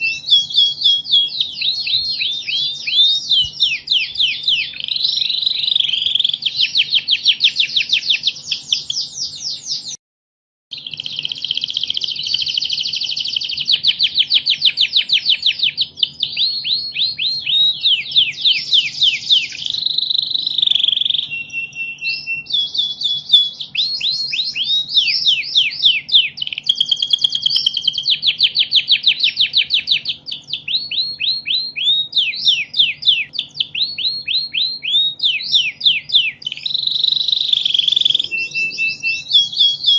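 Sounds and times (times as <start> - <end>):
canary singing trills: 0.0 - 10.0, 10.7 - 39.9.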